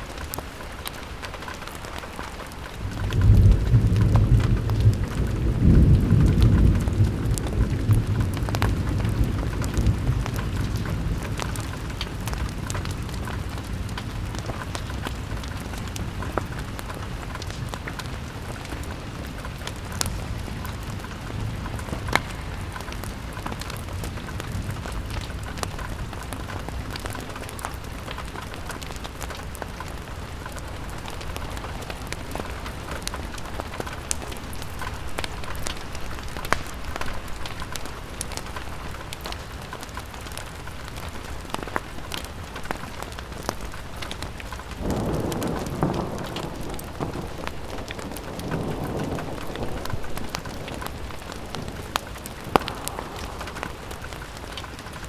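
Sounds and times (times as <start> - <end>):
rain pattering on a window: 0.0 - 55.0
thunder rumbling: 0.1 - 39.2, 40.9 - 55.0.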